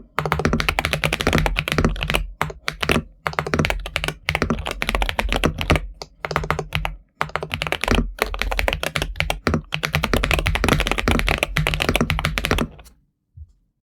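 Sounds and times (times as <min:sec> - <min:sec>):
mechanical keyboard typing: 0:00.0 - 0:12.9.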